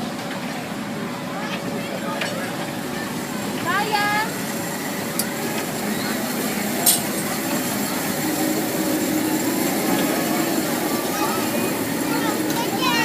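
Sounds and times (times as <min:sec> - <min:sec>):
faint voices: 0:00.0 - 0:13.0
ride-on train running: 0:00.0 - 0:13.0.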